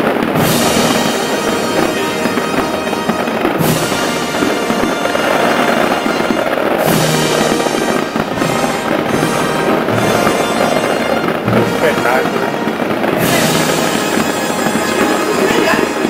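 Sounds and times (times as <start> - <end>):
fireworks crackling and popping: 0.0 - 16.0
loud firework bursts: 0.0 - 16.0.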